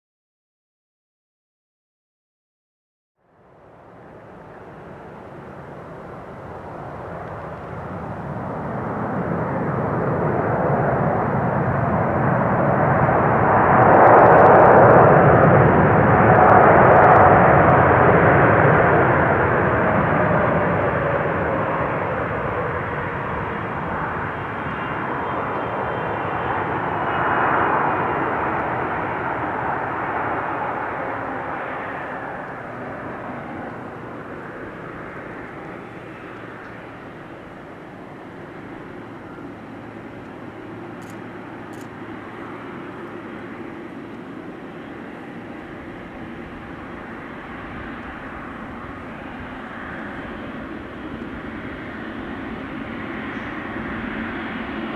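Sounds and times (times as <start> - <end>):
jet engines roaring: 3.5 - 54.9.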